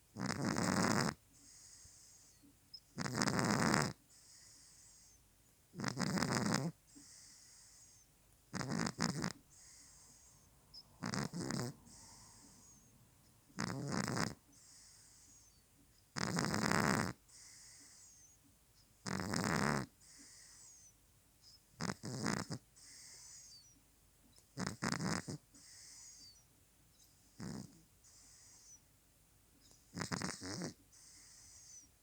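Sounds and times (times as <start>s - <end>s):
cat snoring: 0.2s - 2.4s, 3.0s - 12.9s, 13.5s - 18.4s, 19.0s - 20.9s, 21.8s - 23.8s, 24.6s - 26.4s, 27.0s - 28.8s, 29.6s - 32.0s
soft hissy breaths: 1.1s - 3.0s, 3.9s - 5.8s, 6.7s - 19.1s, 19.8s - 32.0s.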